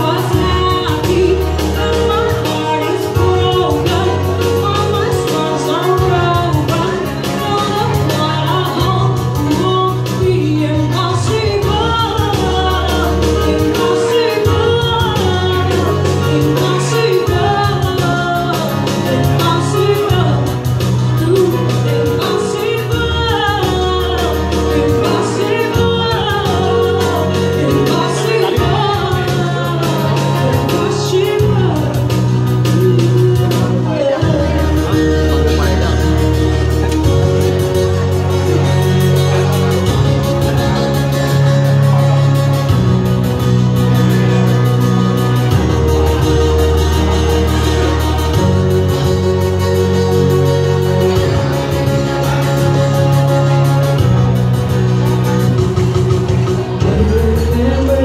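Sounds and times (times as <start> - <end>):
woman singing into a microphone: 0.0 - 42.8, 43.4 - 58.0
keyboard playing chords and bass: 0.0 - 58.0.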